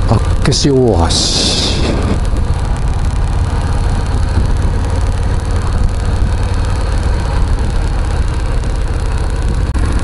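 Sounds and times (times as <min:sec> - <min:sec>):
motorcycle engine running: 0:00.0 - 0:10.0
wind noise on microphone: 0:01.1 - 0:10.0.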